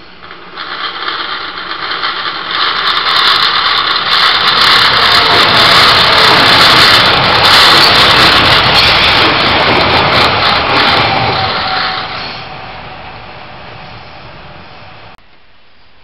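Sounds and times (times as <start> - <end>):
passenger train passing: 0.0 - 15.2.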